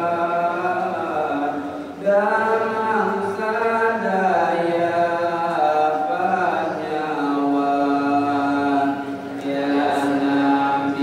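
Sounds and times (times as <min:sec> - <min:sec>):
man chanting into microphone: 0:00.0 - 0:11.0.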